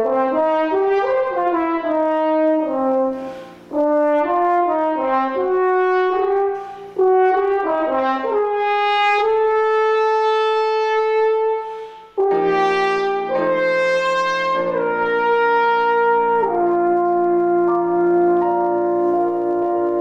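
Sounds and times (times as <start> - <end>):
french horn melody: 0.0 - 20.0
piano chords: 0.0 - 20.0.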